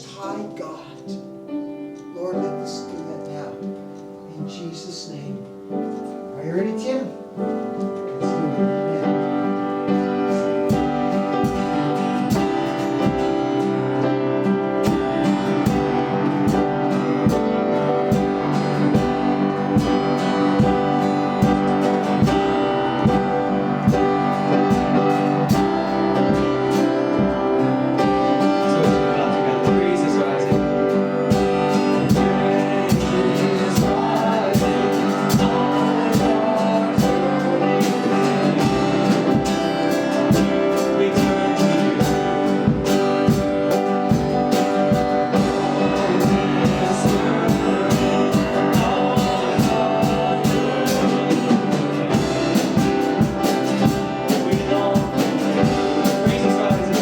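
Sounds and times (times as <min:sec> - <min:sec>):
live band playing: 0:00.0 - 0:57.0
strummed guitar: 0:00.0 - 0:57.0.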